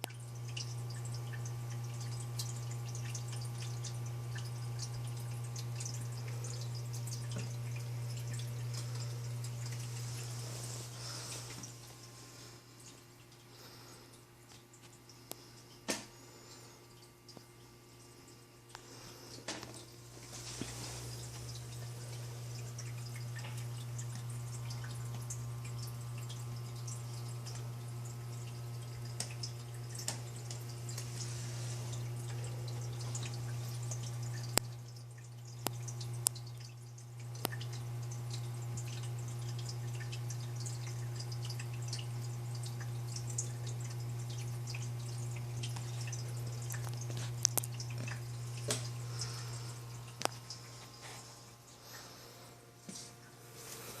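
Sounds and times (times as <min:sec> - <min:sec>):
steady low hum: 0:00.0 - 0:54.0
water dripping and trickling: 0:00.0 - 0:54.0.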